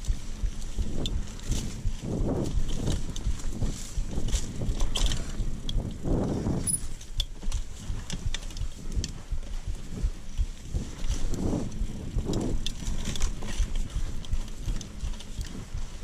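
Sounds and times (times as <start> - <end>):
bike chain and frame rattling: 0.0 - 16.0
bike tyre rumble: 0.0 - 16.0.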